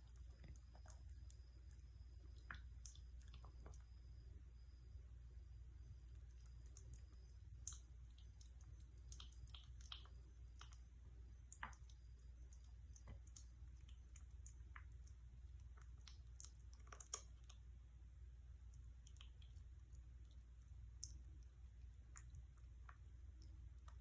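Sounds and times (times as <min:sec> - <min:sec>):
faint irregular clicks: 0:00.0 - 0:04.2, 0:05.8 - 0:24.0
low steady hum: 0:00.0 - 0:24.0.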